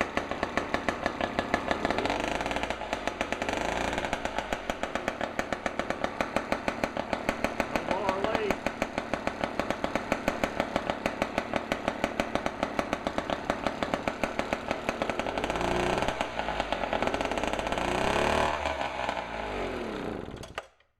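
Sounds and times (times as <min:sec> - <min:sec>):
small outboard motor running: 0:00.0 - 0:20.6.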